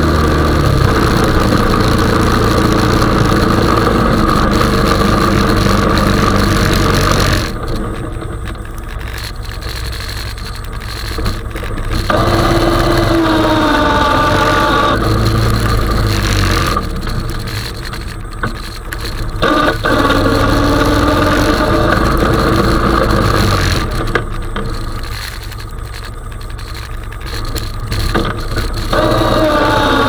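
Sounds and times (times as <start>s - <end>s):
quad bike engine running: 0.0s - 30.0s.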